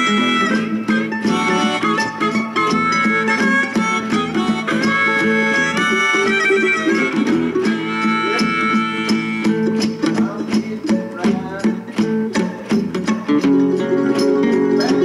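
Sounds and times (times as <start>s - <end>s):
plucked strings: 0.0s - 15.0s.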